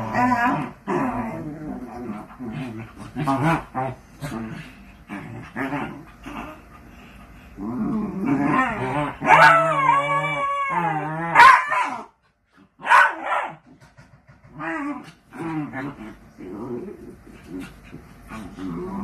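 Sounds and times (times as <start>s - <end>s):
dogs growling: 0.0s - 12.7s, 13.6s - 19.0s.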